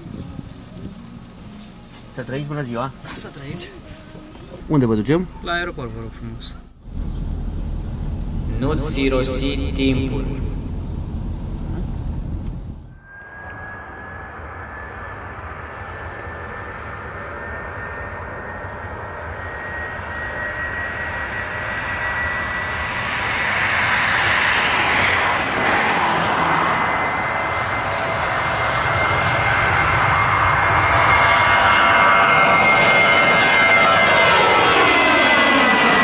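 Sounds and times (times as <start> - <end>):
jet airliner taking off: 2.5 - 36.0.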